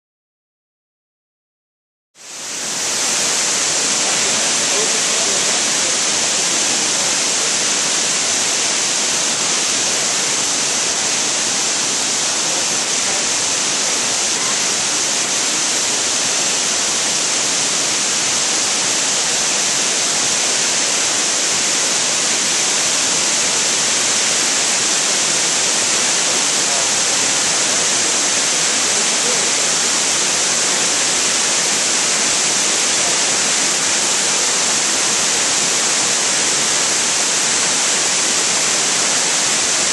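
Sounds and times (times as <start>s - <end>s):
waterfall rushing: 2.2s - 39.9s.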